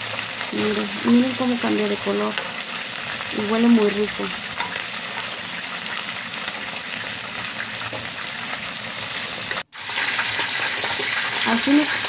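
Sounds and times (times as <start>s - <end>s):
shrimp sizzling in a frying pan: 0.0s - 12.0s.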